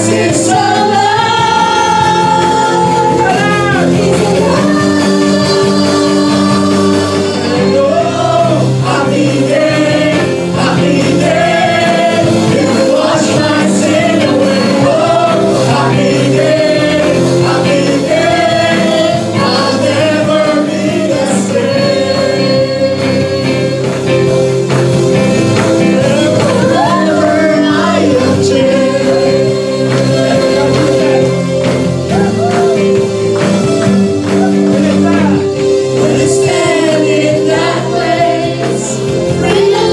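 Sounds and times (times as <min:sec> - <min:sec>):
held instrumental chords: 0:00.0 - 0:39.9
voices singing gospel song: 0:00.0 - 0:39.9.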